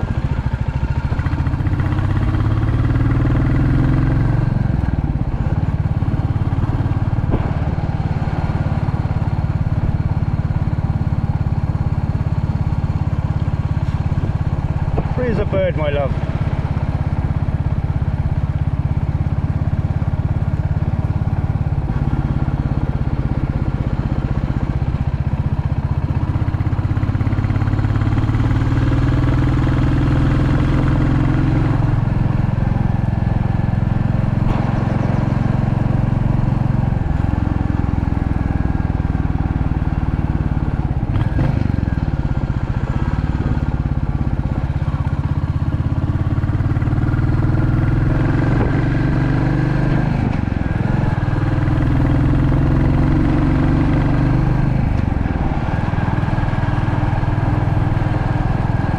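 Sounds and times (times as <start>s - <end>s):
motorcycle engine riding: 0.0s - 58.9s.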